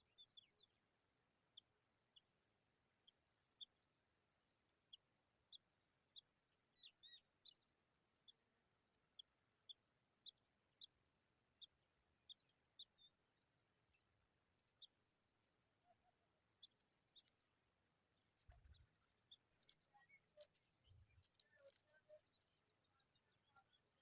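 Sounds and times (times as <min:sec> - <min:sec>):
small bird chirping: 0:00.0 - 0:03.9, 0:04.6 - 0:24.0.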